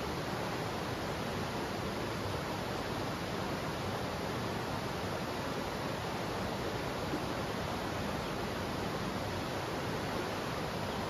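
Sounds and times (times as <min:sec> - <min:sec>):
river flowing over rocks: 0:00.0 - 0:11.0.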